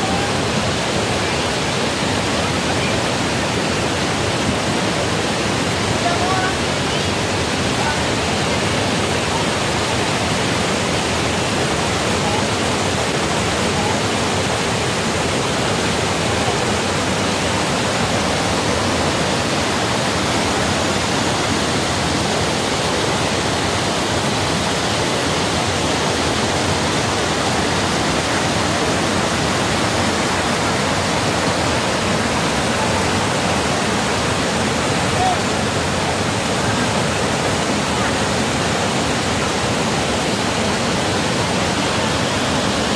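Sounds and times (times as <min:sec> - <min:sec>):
river rushing over boulders: 0:00.0 - 0:42.9.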